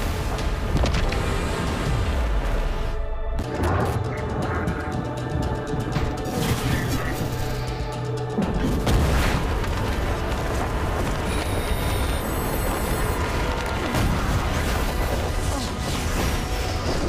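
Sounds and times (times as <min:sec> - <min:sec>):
orchestral film score: 0:00.0 - 0:17.0.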